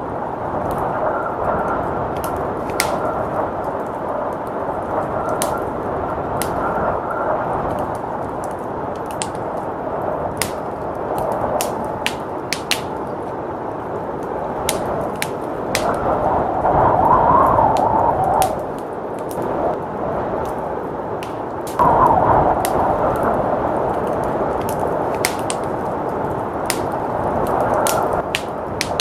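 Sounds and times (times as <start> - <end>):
blizzard wind rushing: 0.0 - 29.0
wood fire crackling and popping: 0.0 - 29.0.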